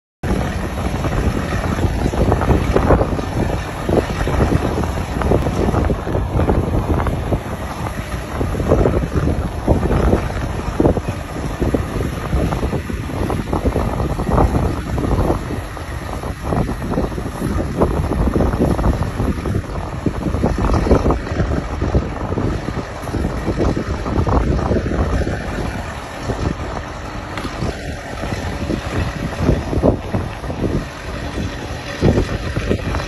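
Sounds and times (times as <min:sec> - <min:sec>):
wind buffeting microphone: 0:00.2 - 0:33.0.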